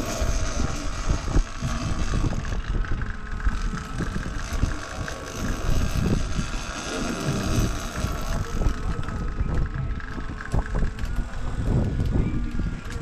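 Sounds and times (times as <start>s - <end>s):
boat engine drone: 0.0s - 13.0s
wind buffeting microphone: 0.0s - 13.0s.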